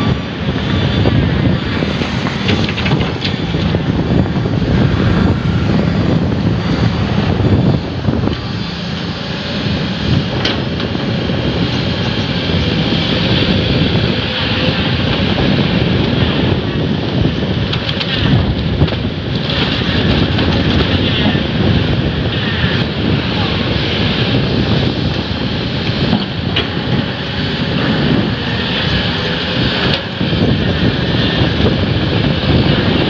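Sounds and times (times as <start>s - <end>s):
heavy engine running: 0.0s - 33.0s
wind buffeting microphone: 0.0s - 33.0s.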